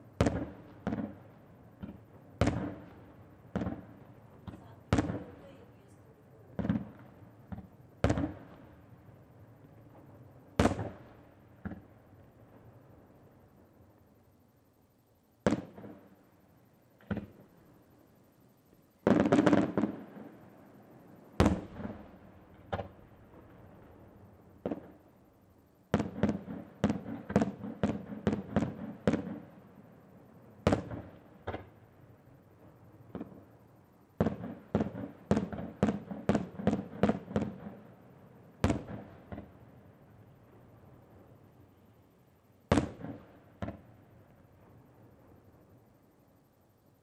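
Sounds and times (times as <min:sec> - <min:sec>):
fireworks bursting: 0:00.0 - 0:13.5, 0:15.4 - 0:42.0, 0:42.6 - 0:45.8
fireworks crackling: 0:00.0 - 0:14.4, 0:15.4 - 0:47.0.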